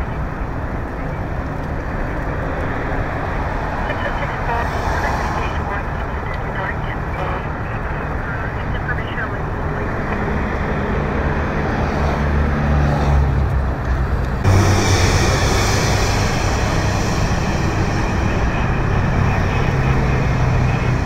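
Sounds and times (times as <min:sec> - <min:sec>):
low engine hum: 0:00.0 - 0:21.0
traffic tyre and engine noise: 0:00.0 - 0:21.0.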